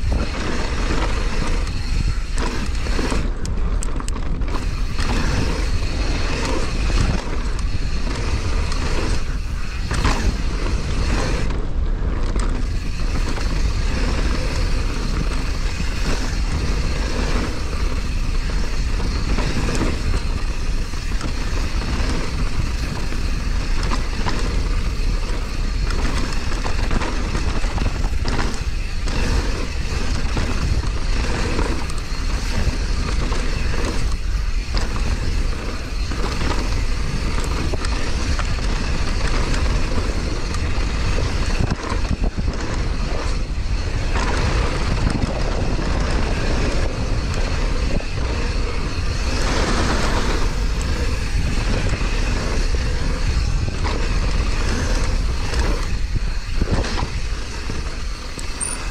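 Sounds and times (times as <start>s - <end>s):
bike chain and suspension rattling: 0.0s - 58.9s
tyres rumbling on dirt and rock: 0.0s - 58.9s
wind noise on microphone: 0.0s - 58.9s.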